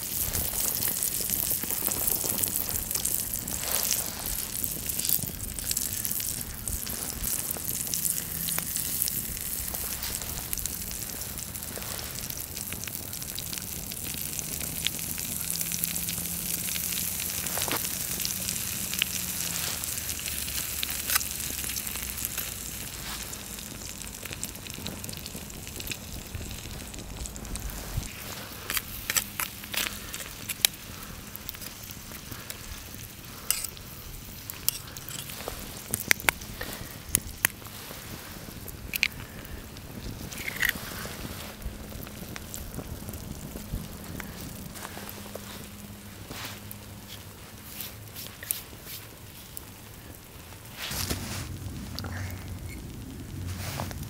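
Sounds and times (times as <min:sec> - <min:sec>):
butter sizzling in pan: 0:00.0 - 0:54.0
campfire crackling and popping: 0:00.0 - 0:54.0.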